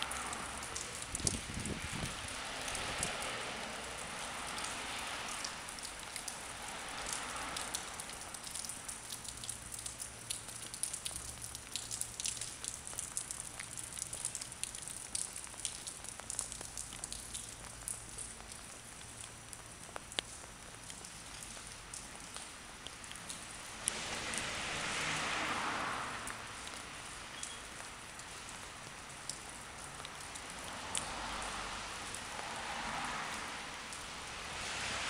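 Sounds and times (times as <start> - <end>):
light rain pattering: 0.0 - 35.0.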